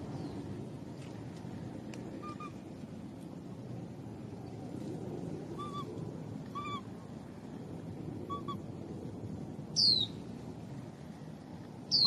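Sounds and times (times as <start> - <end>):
low background hiss: 0.0 - 12.0.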